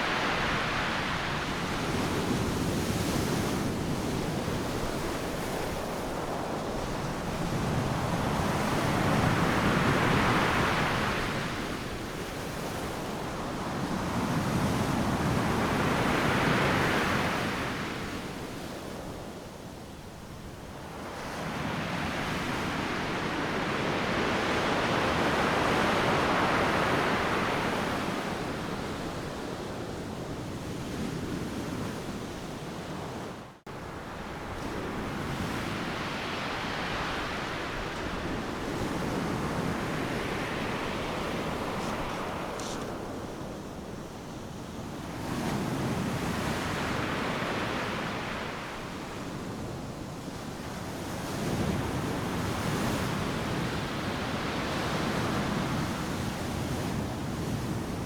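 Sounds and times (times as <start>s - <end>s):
waves breaking on a beach: 0.0s - 58.0s.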